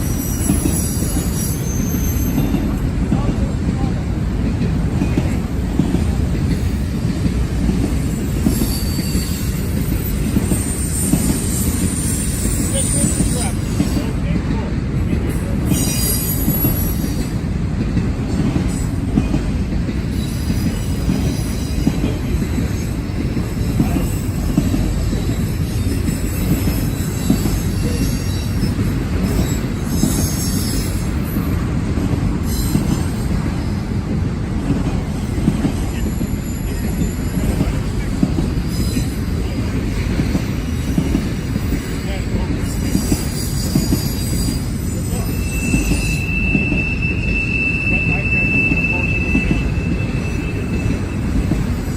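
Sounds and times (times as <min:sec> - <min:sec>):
freight train cars rumbling: 0:00.0 - 0:51.9
steel wheels squealing on rail: 0:00.0 - 0:51.9.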